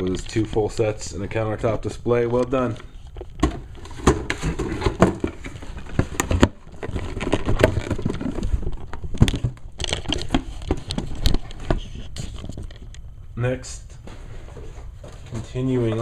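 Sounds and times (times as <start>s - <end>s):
plastic blister packs crinkling: 0.0s - 13.0s.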